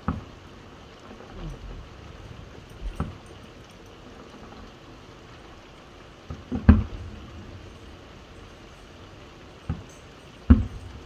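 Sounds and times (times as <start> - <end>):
falling rain hiss: 0.0 - 11.0.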